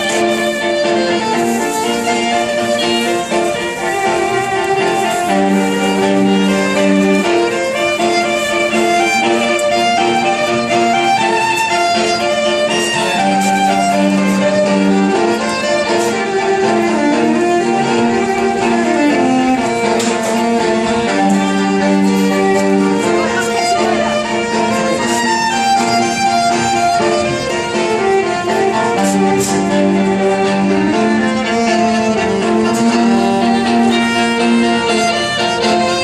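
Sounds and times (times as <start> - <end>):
electric violin melody: 0.0 - 36.0.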